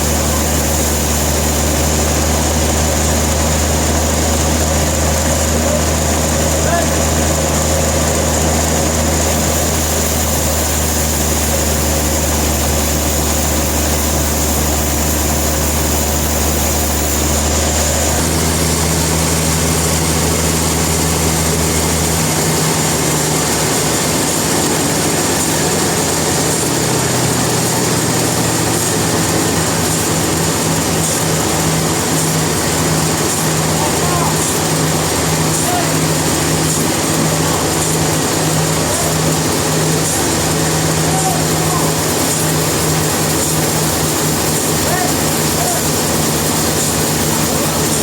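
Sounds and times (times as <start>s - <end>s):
low engine hum: 0.0s - 48.0s
sawmill machinery hiss: 0.0s - 48.0s.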